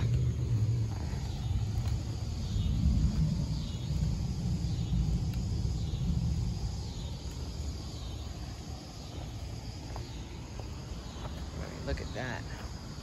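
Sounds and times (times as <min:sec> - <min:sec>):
low rumble: 0:00.0 - 0:12.0
faint insects chirping: 0:00.0 - 0:13.0.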